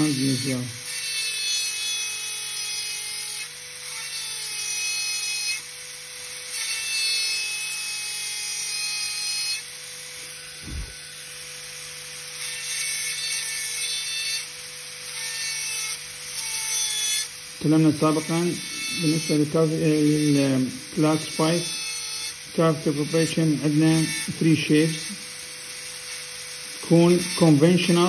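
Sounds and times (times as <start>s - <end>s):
dental drill whining: 0.0s - 28.0s.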